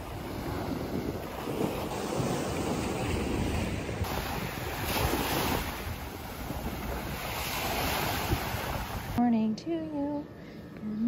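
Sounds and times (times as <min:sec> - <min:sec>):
small waves washing on beach: 0:00.0 - 0:09.2
wind buffeting microphone: 0:00.0 - 0:09.2.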